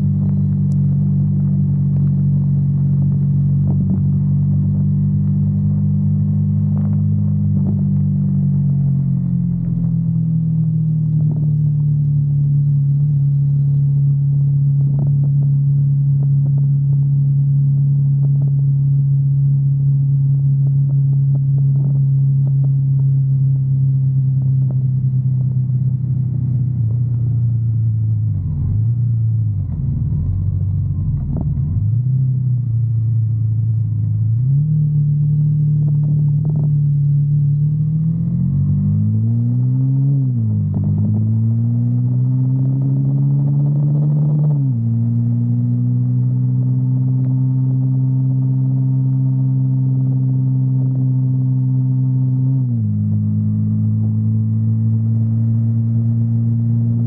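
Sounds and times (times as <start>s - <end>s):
motorcycle engine cruising: 0.0s - 17.4s, 20.7s - 57.0s.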